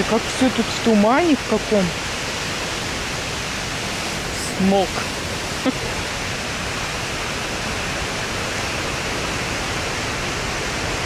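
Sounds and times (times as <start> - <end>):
river and waterfall rushing: 0.0 - 11.0.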